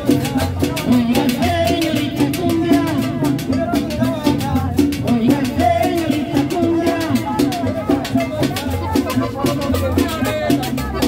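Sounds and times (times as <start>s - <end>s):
person singing: 0.0s - 9.5s
live salsa band playing: 0.0s - 11.0s
percussion beat: 0.0s - 11.0s.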